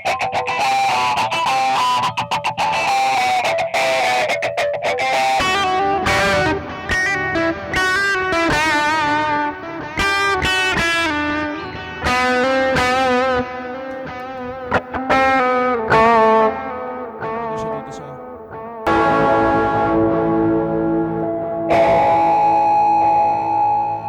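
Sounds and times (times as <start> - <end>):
electric guitar with effects: 0.0 - 24.0.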